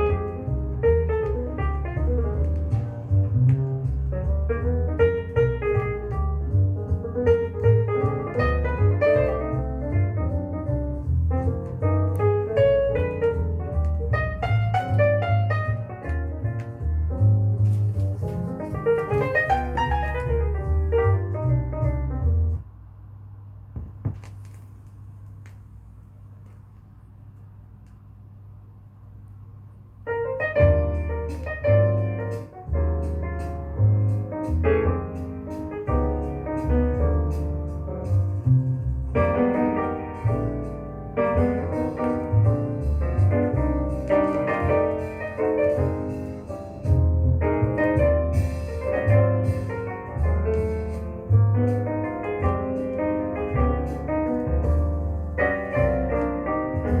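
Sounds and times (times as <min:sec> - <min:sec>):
piano music over loudspeakers: 0:00.0 - 0:22.6, 0:30.1 - 0:57.0.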